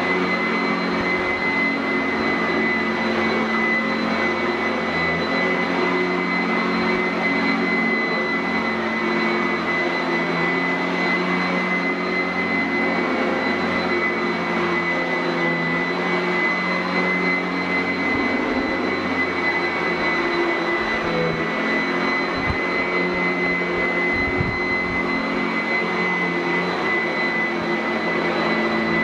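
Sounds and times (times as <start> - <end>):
upright vacuum running on carpet: 0.0 - 29.0.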